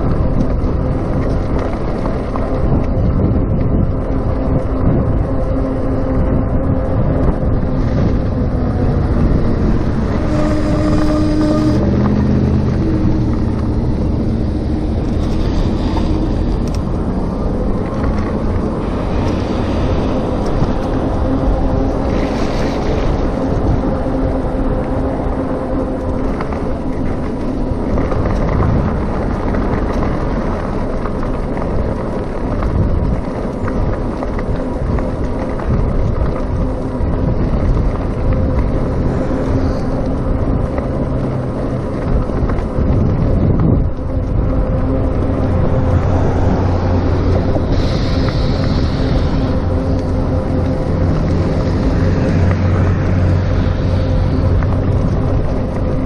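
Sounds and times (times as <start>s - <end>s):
electric bike tyre road noise: 0.0s - 56.0s
wind buffeting microphone: 0.0s - 56.0s.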